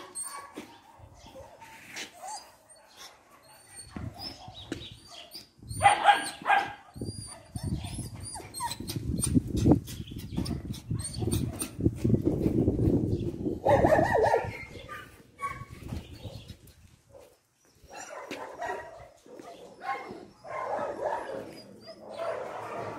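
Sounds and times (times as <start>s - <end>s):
dogs barking and yelping: 0.0s - 12.6s, 13.2s - 22.9s.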